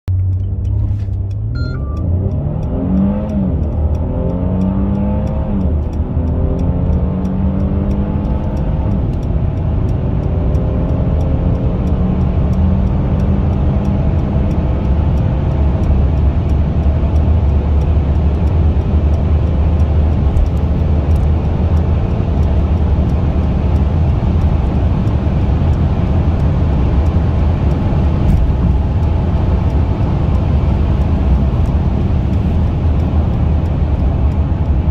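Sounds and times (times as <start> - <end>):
car engine accelerating: 0.1 - 34.9
road noise: 0.1 - 34.9.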